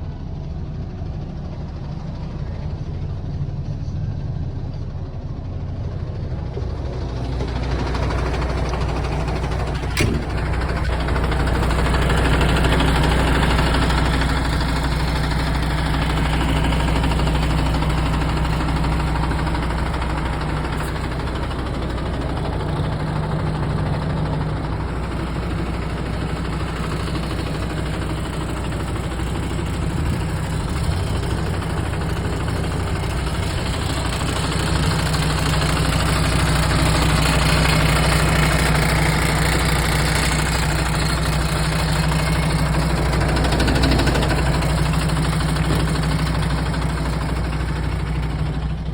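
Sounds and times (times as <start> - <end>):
truck diesel engine idling: 0.0 - 48.9.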